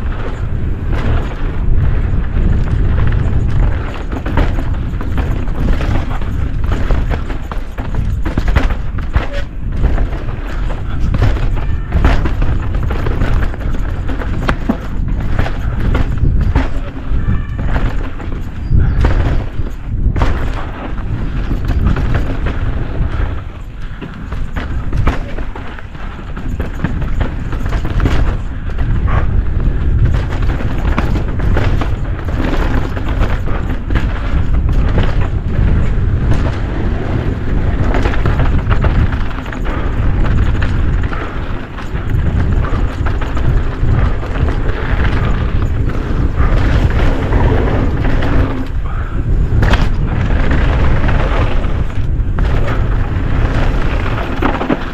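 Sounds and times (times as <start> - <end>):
bike clattering over bumps: 0.0 - 54.9
bike tyres on dirt: 0.0 - 54.9
wind buffeting microphone: 0.0 - 54.9.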